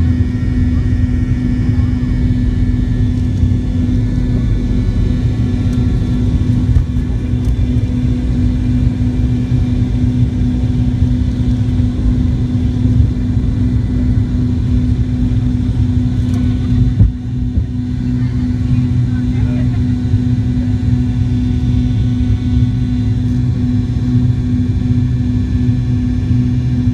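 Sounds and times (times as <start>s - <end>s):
jet engines rumble and drone: 0.0s - 26.9s.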